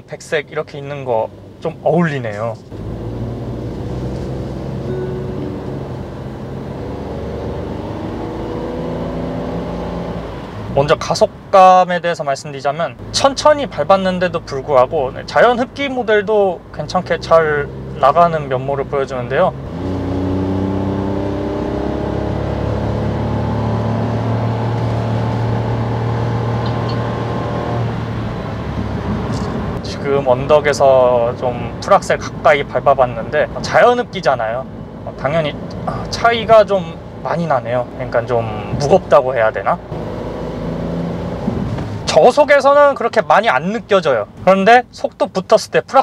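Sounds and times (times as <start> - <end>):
car engine low drone: 0.0 - 11.5, 12.9 - 45.0
road noise: 0.0 - 46.0.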